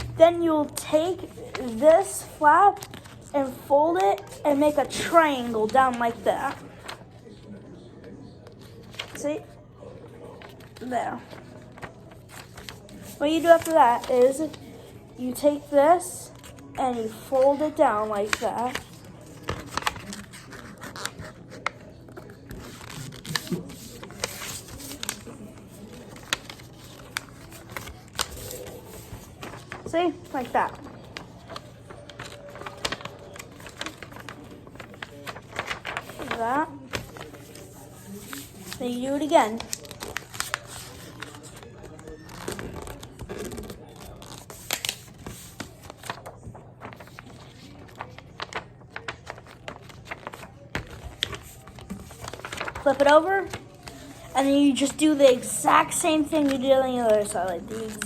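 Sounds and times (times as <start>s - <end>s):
paper being folded: 0.0s - 9.6s, 10.2s - 58.0s.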